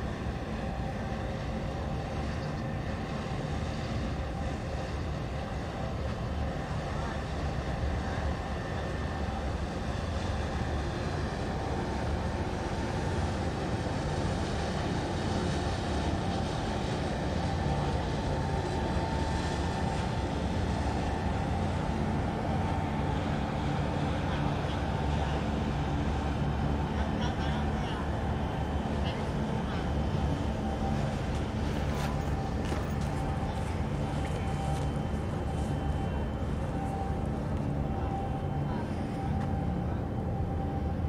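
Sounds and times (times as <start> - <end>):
low mechanical rumble: 0.0 - 41.0.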